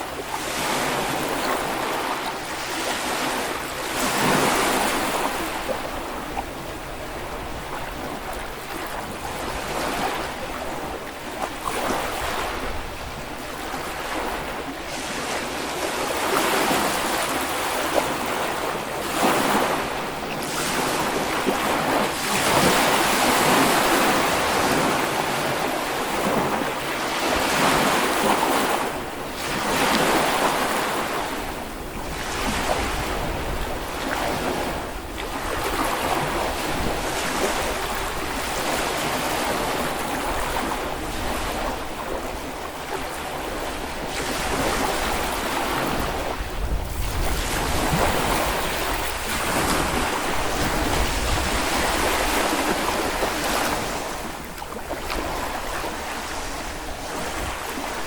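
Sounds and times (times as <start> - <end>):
small waves washing onto beach: 0.0 - 58.0
wind on microphone: 0.0 - 58.0.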